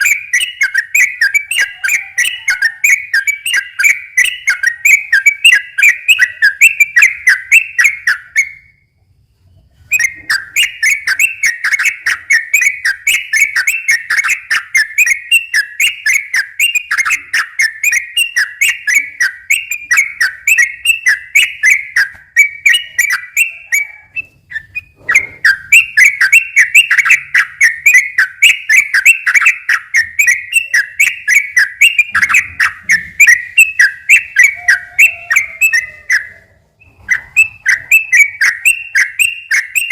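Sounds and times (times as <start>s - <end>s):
bird singing whistled notes: 0.0s - 9.0s, 9.8s - 39.9s.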